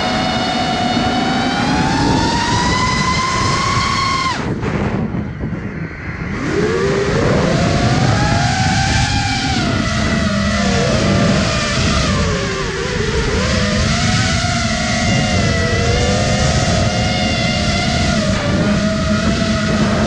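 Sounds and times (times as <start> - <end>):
quadcopter motors whining: 0.0 - 20.0
rush of air noise: 0.9 - 20.0.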